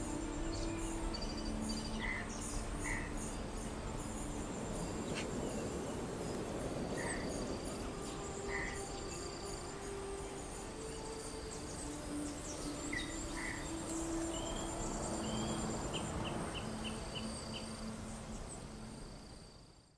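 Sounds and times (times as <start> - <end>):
insects chirping: 0.0 - 19.9.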